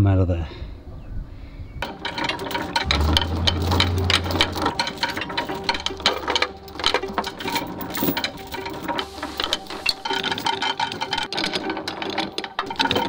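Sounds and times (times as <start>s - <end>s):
anchor chain rattling: 1.8s - 13.0s
windlass motor humming: 1.8s - 13.0s.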